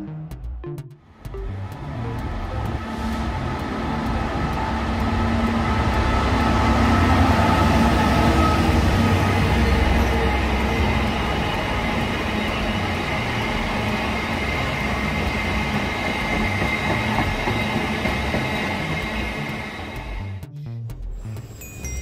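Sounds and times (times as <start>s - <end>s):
diesel locomotive engine rumble: 1.1s - 20.4s
wagon wheels rumbling on rail: 1.1s - 20.4s.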